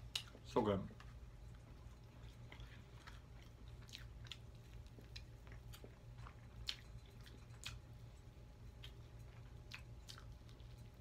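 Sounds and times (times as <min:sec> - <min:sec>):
chewing with wet mouth clicks: 0:00.0 - 0:11.0
steady low hum: 0:00.0 - 0:11.0.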